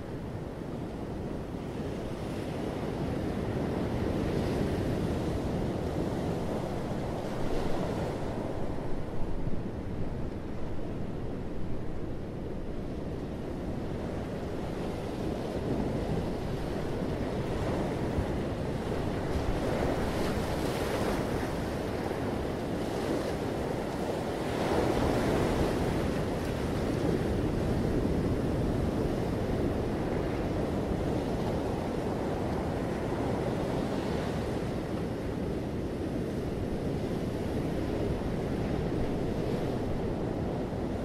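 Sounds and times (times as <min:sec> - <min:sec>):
sea surf on rocky shore: 0:00.0 - 0:41.0.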